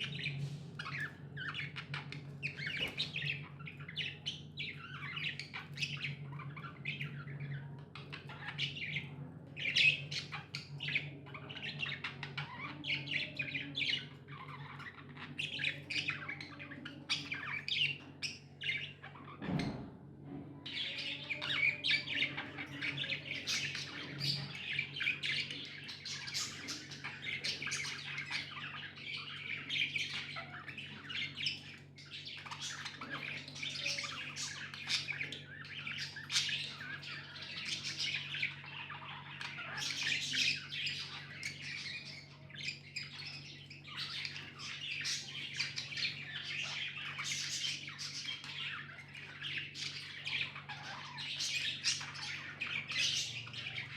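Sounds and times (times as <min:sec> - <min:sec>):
budgies chirping and squawking: 0:00.0 - 0:19.9, 0:20.6 - 0:53.9.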